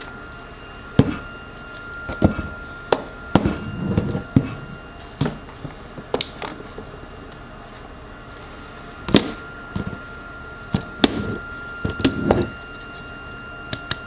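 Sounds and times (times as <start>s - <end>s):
faint high-pitched tone: 0.0s - 14.0s.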